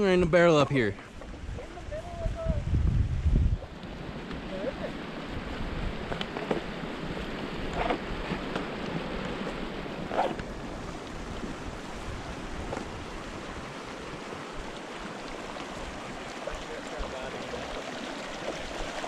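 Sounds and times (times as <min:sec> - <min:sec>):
wind buffeting microphone: 0:01.1 - 0:19.0.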